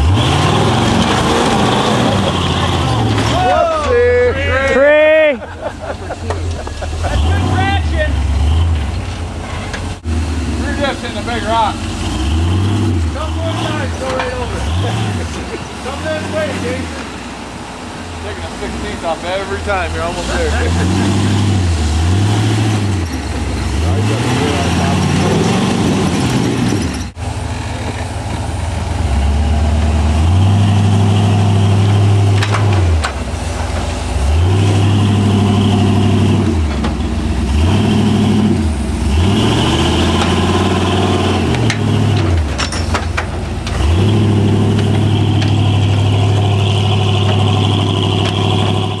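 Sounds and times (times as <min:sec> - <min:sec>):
engine revving under load: 0:00.0 - 0:03.6, 0:05.6 - 0:17.6, 0:18.2 - 0:49.0.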